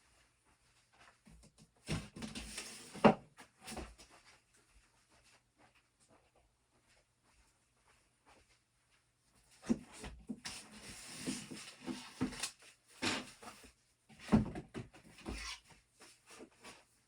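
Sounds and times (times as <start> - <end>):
scraping and rustling: 0.0 - 17.0.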